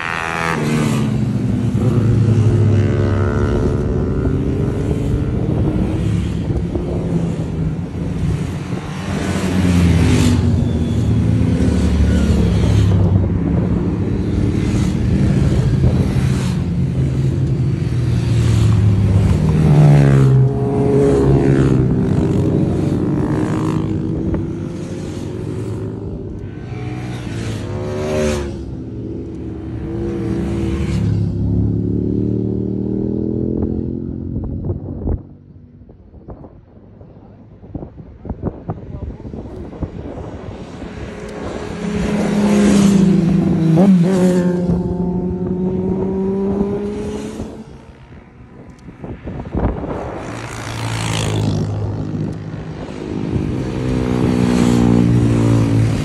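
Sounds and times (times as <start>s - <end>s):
motorcycles passing at speed: 0.0s - 56.0s.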